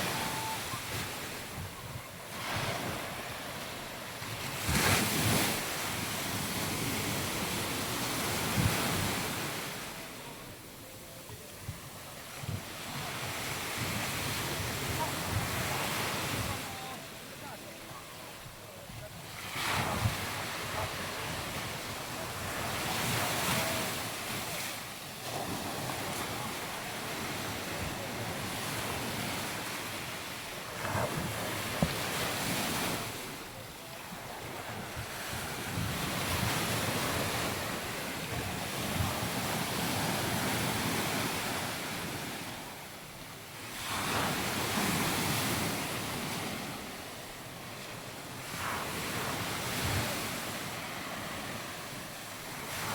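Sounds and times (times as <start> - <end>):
surf breaking on a beach: 0.0 - 52.9.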